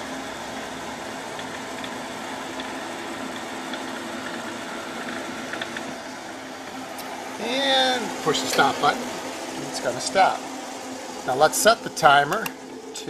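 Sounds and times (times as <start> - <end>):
mixer humming: 0.0 - 13.0.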